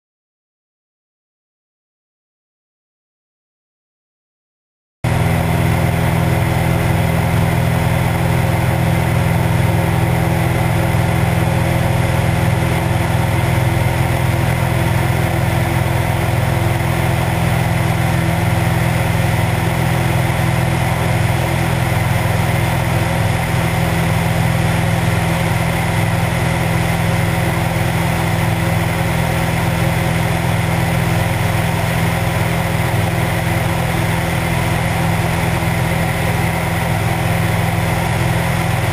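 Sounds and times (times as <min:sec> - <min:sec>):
airplane engine and propeller: 0:05.0 - 0:38.9.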